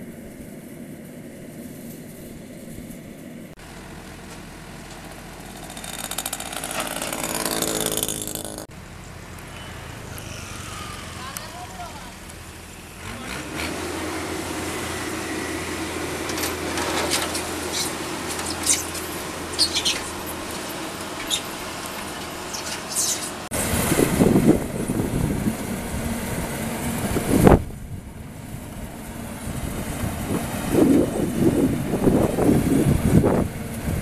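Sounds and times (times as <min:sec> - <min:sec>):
combine harvester diesel engine: 0:00.0 - 0:34.0.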